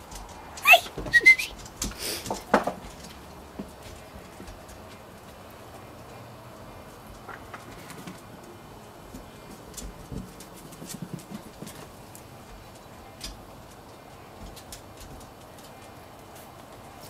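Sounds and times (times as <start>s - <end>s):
puppy paws clicking on paving: 0.0s - 17.0s.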